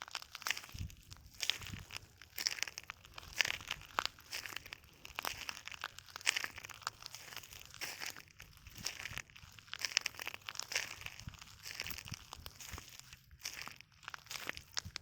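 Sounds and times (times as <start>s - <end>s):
footsteps crunching on shells: 0.0s - 15.0s.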